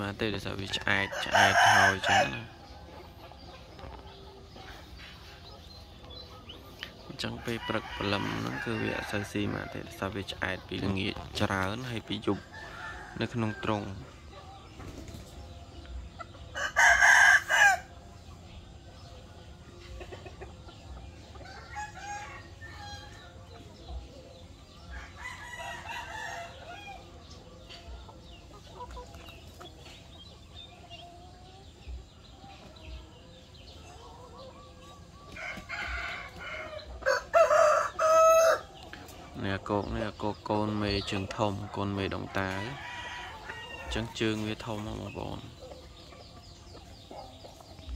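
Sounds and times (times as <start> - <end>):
roosters crowing: 0.0 - 47.9.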